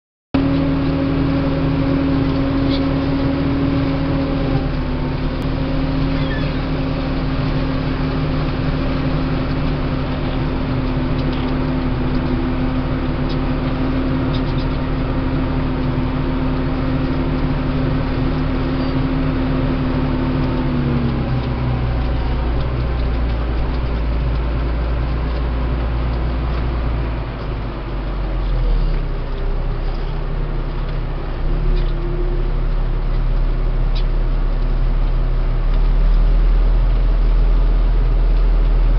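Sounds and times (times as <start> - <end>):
tractor diesel engine running: 0.4 - 38.9.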